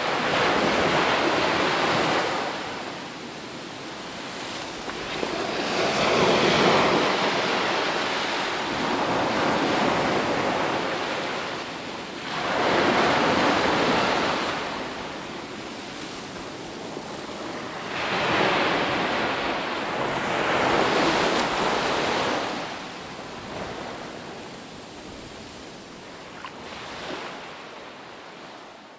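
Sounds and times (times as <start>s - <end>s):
ocean waves breaking on shore: 0.0s - 28.9s.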